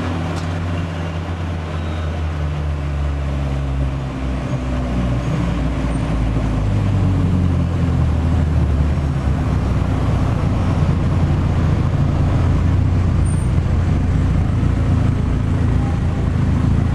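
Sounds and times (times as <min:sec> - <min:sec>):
car engine and tyre drone: 0:00.0 - 0:16.9.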